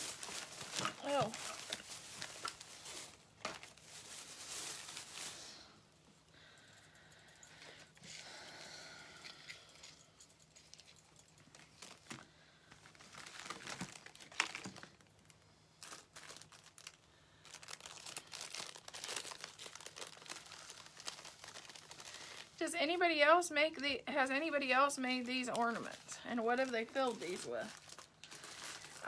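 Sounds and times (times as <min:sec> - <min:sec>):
crinkling and rustling of craft materials: 0:00.0 - 0:08.6, 0:09.2 - 0:23.1, 0:23.8 - 0:29.0.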